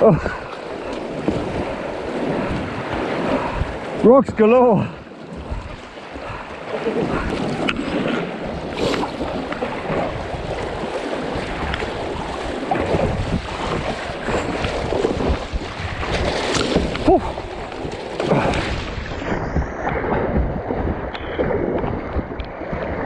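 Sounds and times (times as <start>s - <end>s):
knocks and splashes: 0.0s - 23.0s
wind buffeting microphone: 0.0s - 23.0s.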